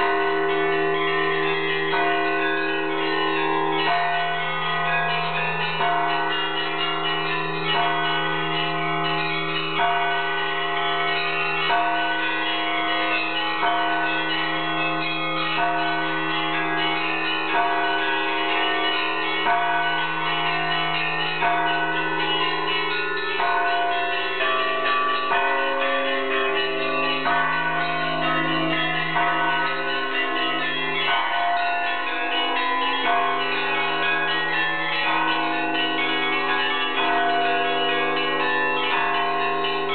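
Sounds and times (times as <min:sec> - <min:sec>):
small church bells pealing: 0:00.0 - 0:39.9.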